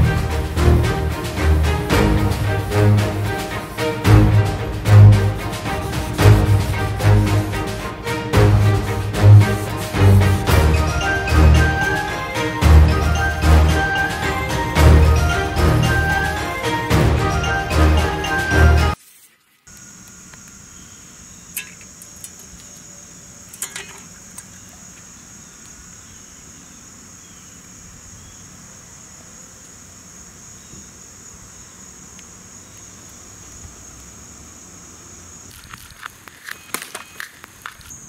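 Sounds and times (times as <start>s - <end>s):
insects chirring: 0.1s - 17.7s, 18.3s - 38.0s.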